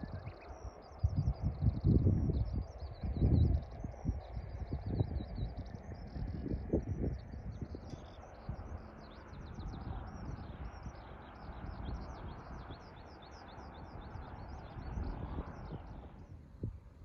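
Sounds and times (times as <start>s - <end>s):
songbird chirping: 0.0s - 16.4s
wind rumbling on microphone: 0.0s - 17.0s.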